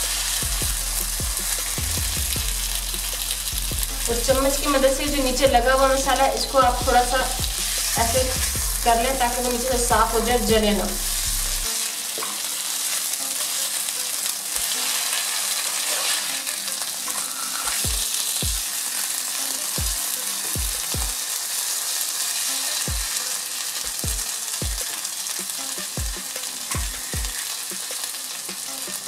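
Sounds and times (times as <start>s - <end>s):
fish sizzling on griddle: 0.0s - 29.0s.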